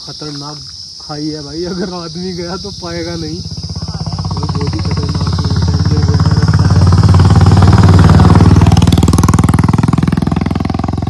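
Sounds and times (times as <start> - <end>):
motorcycle engine passing by: 1.8 - 11.0.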